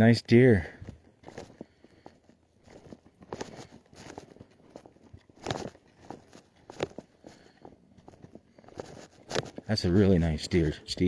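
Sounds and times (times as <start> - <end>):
footsteps on dry ground: 0.0 - 11.0.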